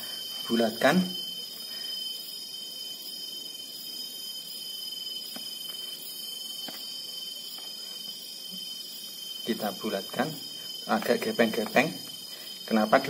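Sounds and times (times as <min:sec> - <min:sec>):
high-pitched insect trilling: 0:00.0 - 0:13.0.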